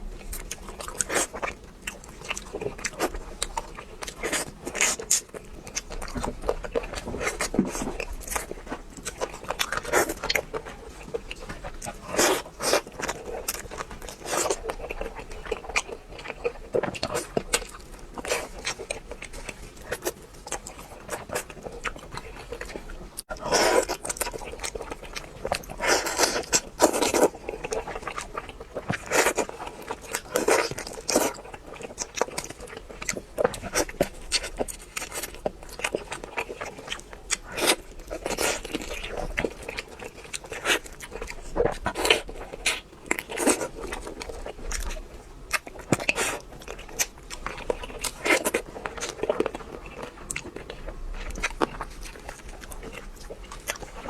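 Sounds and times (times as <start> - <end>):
crunching crispy fried food: 0.0 - 54.0.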